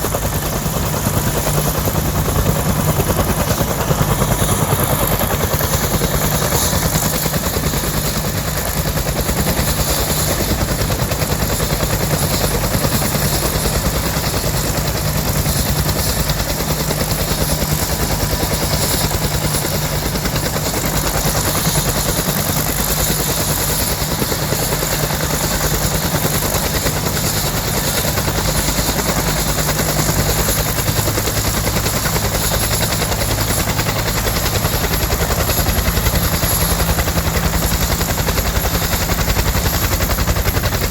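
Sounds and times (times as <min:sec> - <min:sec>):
helicopter rotor beat: 0:00.0 - 0:40.9
turboshaft engine whine: 0:00.0 - 0:40.9.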